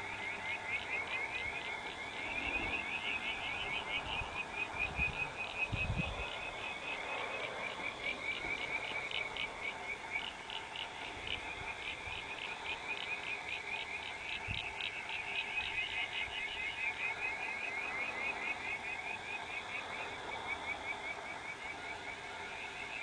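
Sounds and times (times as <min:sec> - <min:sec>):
frogs calling in chorus: 0:00.0 - 0:23.0.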